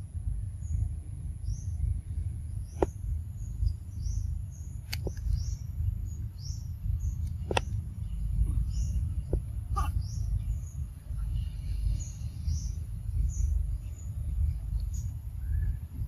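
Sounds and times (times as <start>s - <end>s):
low rumble on microphone: 0.0s - 16.0s.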